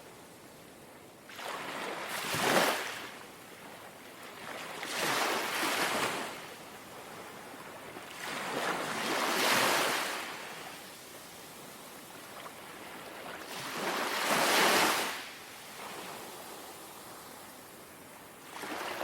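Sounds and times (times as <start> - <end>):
gentle waves lapping on shore: 0.0 - 19.0.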